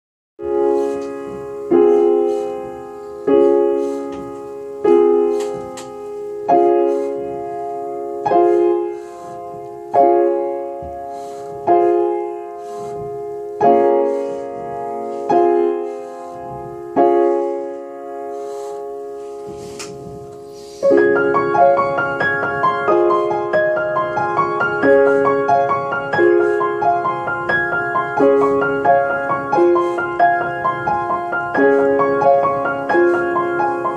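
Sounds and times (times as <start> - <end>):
slow piano playing: 0.4 - 33.9.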